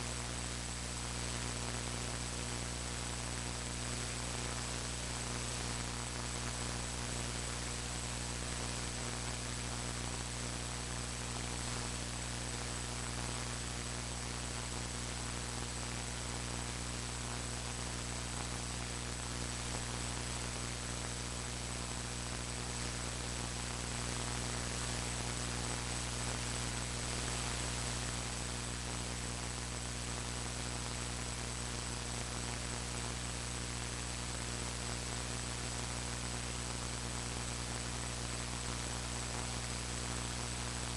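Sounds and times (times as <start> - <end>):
electrical mains hum and hiss: 0.0 - 40.9.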